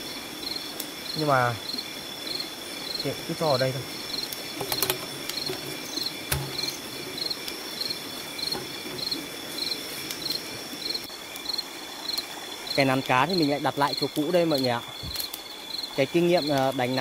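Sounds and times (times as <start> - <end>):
crickets trilling and chirping: 0.0 - 17.0.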